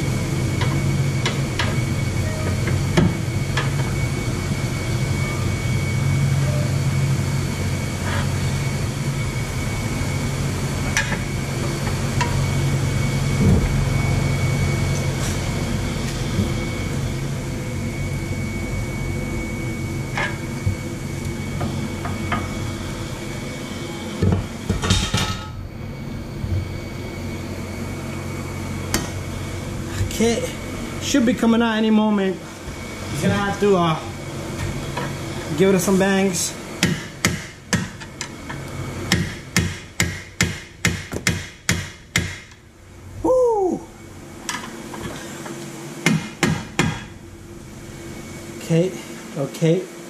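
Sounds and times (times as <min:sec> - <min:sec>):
faint high whine: 0:00.0 - 0:36.8, 0:42.6 - 0:46.0, 0:47.1 - 0:50.0
low shop hum: 0:00.0 - 0:50.0.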